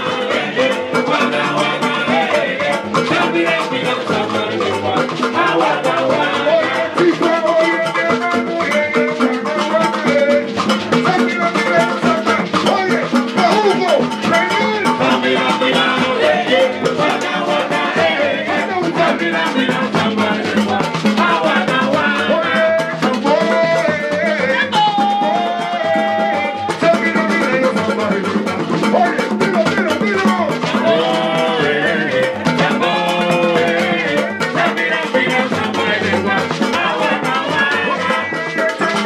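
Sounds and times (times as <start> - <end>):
person singing melody: 0.0 - 39.0
rumba percussion rhythm: 0.0 - 39.0.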